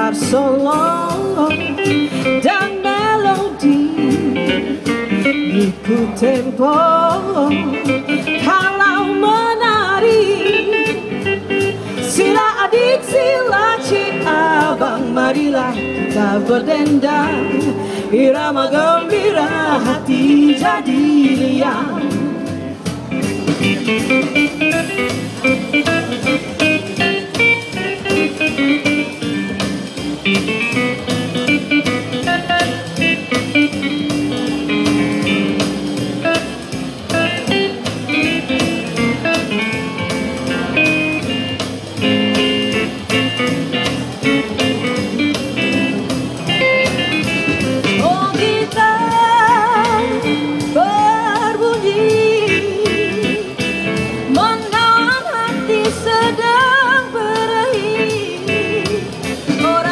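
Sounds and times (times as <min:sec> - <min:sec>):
guitar lead line: 0:00.0 - 0:59.9
steady drum beat: 0:00.1 - 0:59.9.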